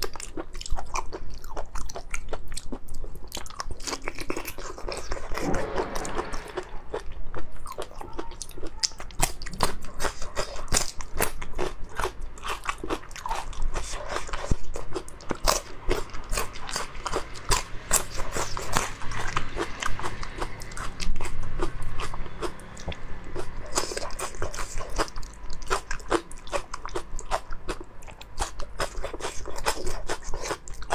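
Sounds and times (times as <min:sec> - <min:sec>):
chewing crunchy prawn shells: 0:00.0 - 0:30.9.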